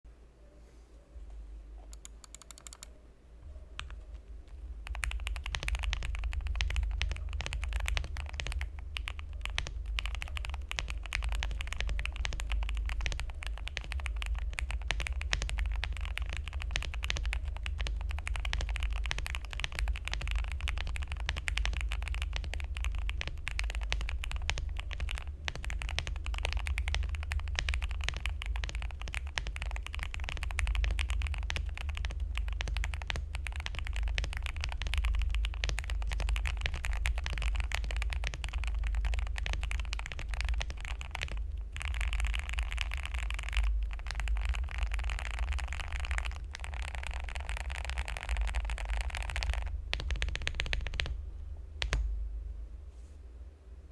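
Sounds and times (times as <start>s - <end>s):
mechanical keyboard typing: 1.9s - 2.9s, 3.8s - 51.2s.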